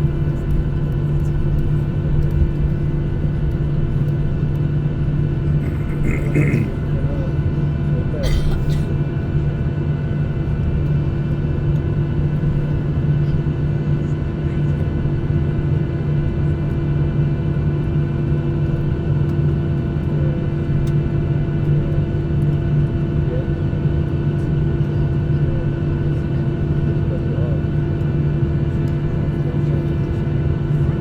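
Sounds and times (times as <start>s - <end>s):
jet engine drone in cabin: 0.0s - 31.0s.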